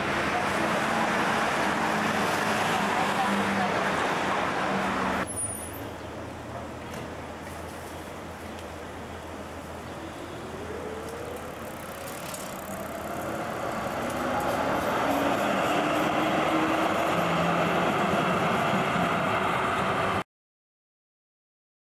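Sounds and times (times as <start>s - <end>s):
tram passing: 0.0s - 7.4s, 8.2s - 20.2s.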